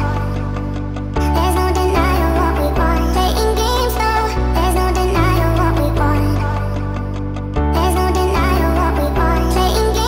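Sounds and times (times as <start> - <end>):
music with bass and melody: 0.0 - 10.0.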